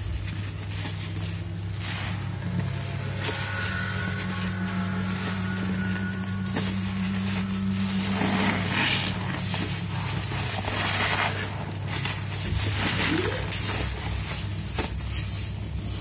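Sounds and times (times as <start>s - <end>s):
soapy foam squelching: 0.0s - 16.0s
steady low hum: 0.0s - 16.0s.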